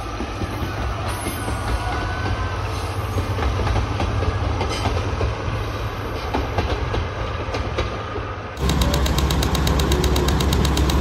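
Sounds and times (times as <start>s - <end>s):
train low rumble: 0.0s - 11.0s
train wheels clacking over rail joints: 0.0s - 11.0s.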